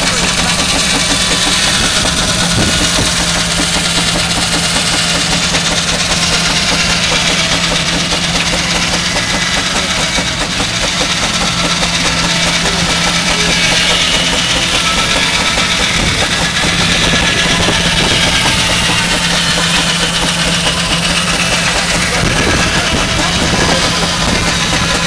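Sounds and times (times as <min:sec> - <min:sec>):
circular saw cutting log: 0:00.0 - 0:25.0
steam engine working: 0:00.0 - 0:25.0.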